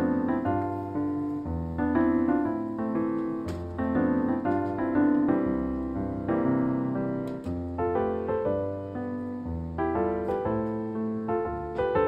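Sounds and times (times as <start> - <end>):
solo piano melody: 0.0 - 12.0.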